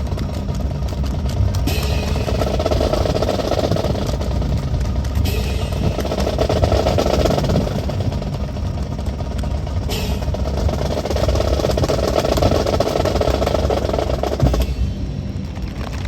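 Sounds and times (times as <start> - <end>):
engine-like rumble: 0.0 - 16.0.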